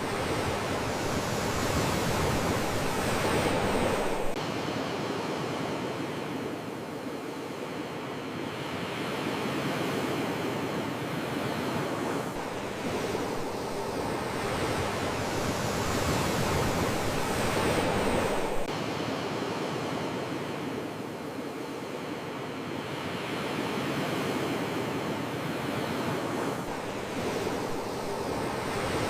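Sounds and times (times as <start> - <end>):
sea waves breaking ashore: 0.0 - 29.0.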